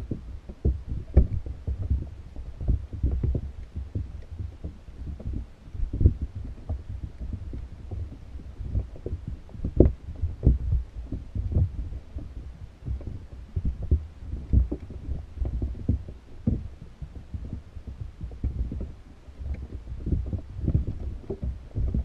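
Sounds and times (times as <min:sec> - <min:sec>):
low underwater thumps: 0:00.0 - 0:22.0
muffled underwater rumble: 0:00.0 - 0:22.0.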